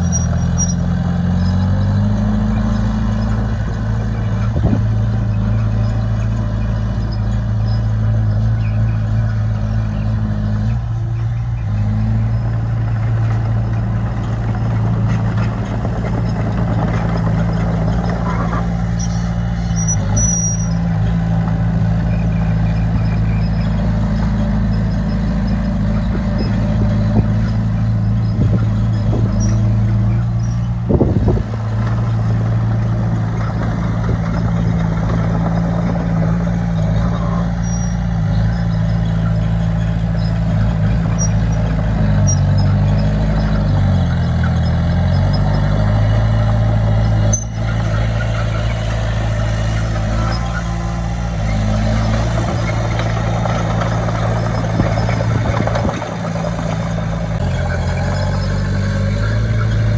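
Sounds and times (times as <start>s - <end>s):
heavy machinery diesel engine running: 0.0s - 59.9s.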